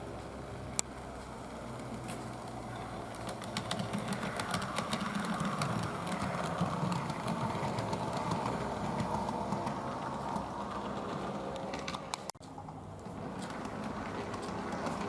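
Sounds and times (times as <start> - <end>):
model train rumbling: 0.0 - 15.0
wheels clicking over rail joints: 0.0 - 15.0.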